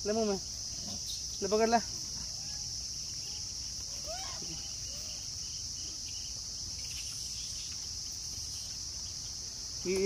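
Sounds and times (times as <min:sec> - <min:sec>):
insect chorus droning: 0:00.0 - 0:10.0.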